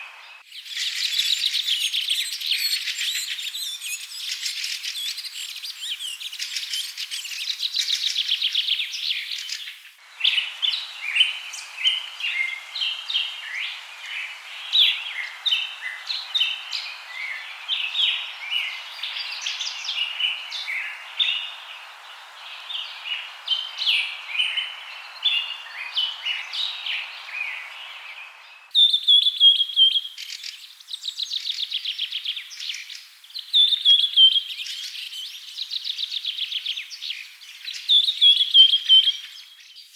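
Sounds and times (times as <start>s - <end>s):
birds chirping and trilling: 0.0s - 39.9s
steady background hiss: 0.0s - 39.9s.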